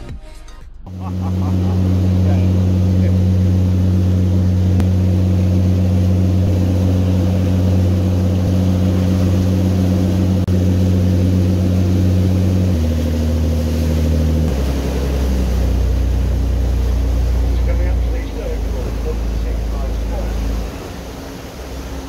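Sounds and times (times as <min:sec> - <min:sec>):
boat engines droning: 0:00.9 - 0:22.0
rush of churning wake: 0:00.9 - 0:22.0.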